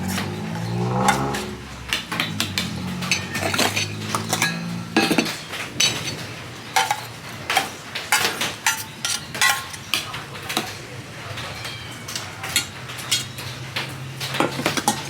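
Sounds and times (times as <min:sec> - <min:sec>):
metal utensil clinking on dishes: 0:00.0 - 0:15.0.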